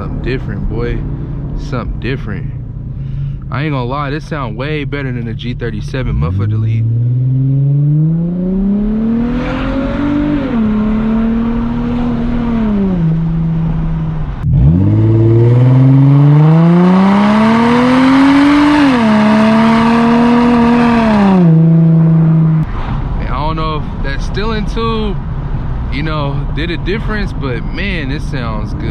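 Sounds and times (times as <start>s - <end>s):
car engine accelerating hard: 0.0s - 28.9s.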